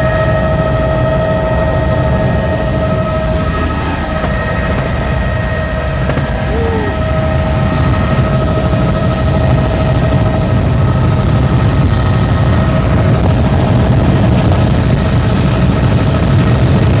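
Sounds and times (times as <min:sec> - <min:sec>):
helicopter rotor and engine drone: 0:00.0 - 0:17.0
high-pitched whine: 0:00.0 - 0:17.0.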